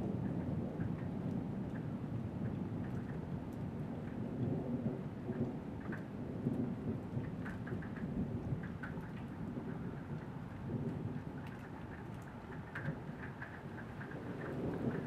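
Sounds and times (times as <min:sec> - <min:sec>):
rain falling: 0:00.0 - 0:15.0
raindrop ticks: 0:00.0 - 0:15.0
thunder rumbling: 0:00.0 - 0:15.0.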